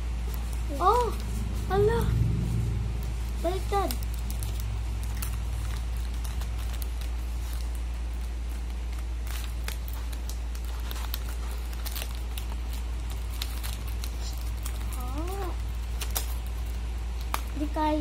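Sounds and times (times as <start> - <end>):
paper and tape crinkling: 0.0 - 18.0
steady low hum: 0.0 - 18.0.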